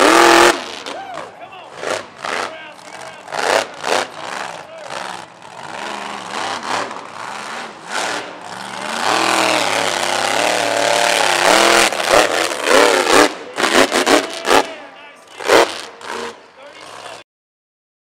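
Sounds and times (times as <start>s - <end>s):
truck engine revving: 0.0s - 17.2s.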